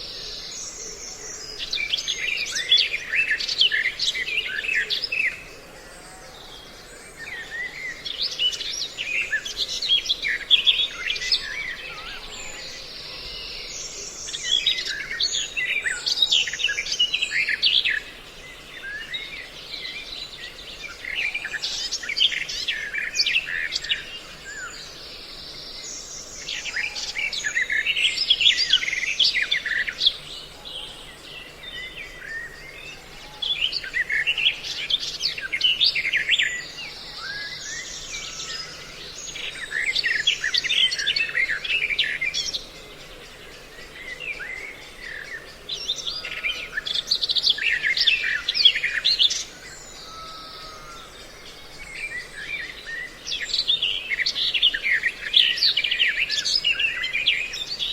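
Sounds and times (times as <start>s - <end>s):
recorded songbird chirping: 0.0s - 5.7s, 6.3s - 57.9s.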